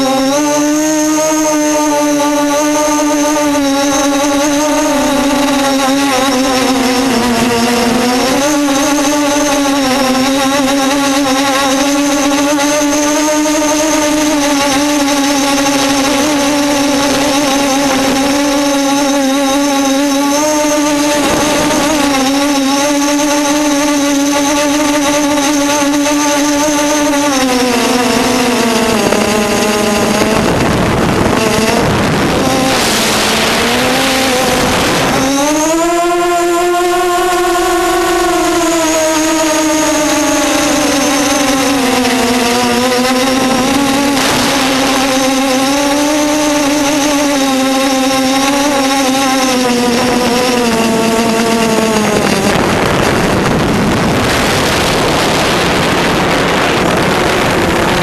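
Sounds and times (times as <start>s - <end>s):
electric propeller motors whining: 0.0s - 58.0s
wind noise: 0.0s - 58.0s.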